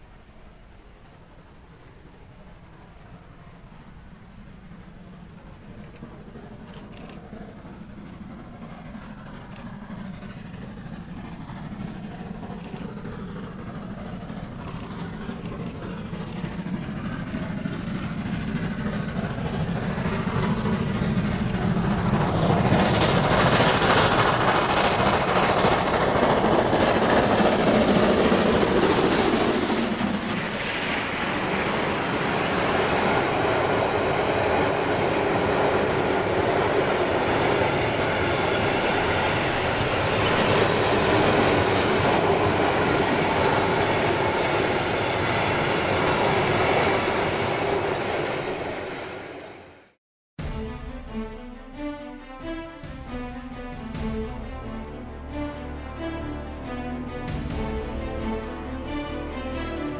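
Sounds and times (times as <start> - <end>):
train wagons rolling: 0.0 - 49.7
steam locomotive passing: 0.0 - 59.9.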